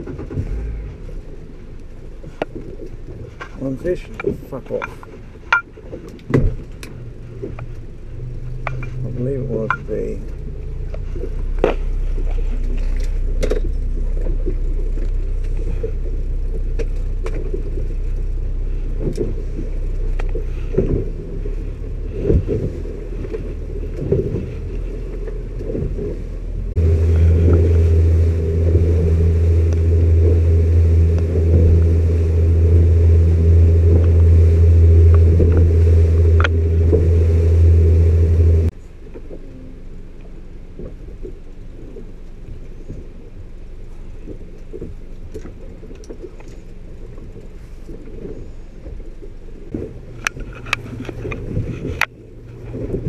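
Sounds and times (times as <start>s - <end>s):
boat engine: 0.0s - 53.0s.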